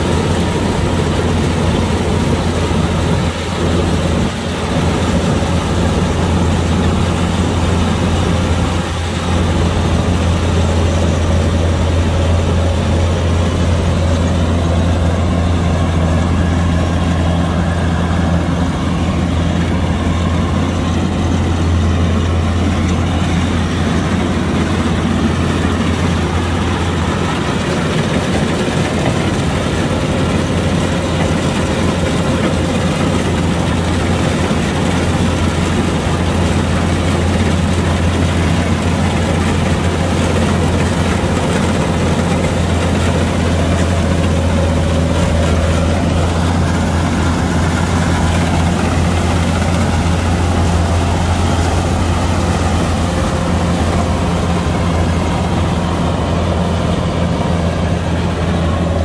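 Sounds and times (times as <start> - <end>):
diesel engine humming: 0.0 - 59.0.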